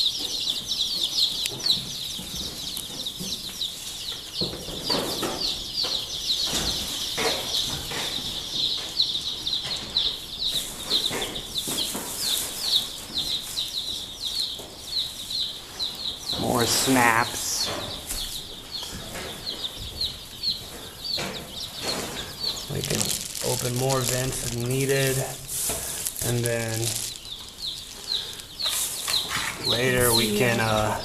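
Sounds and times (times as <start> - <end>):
baby chicks peeping: 0.0 - 31.0.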